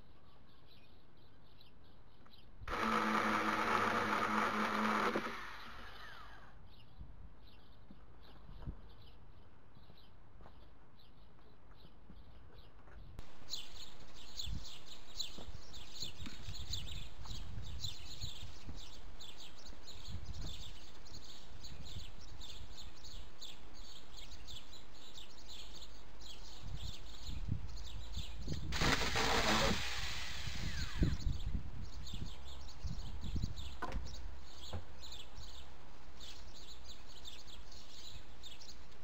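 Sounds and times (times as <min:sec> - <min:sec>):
small birds chirping: 0:04.5 - 0:39.0.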